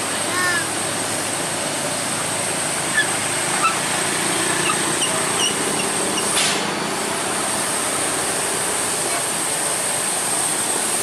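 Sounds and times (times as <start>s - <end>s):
steady engine or wind noise: 0.0s - 11.0s.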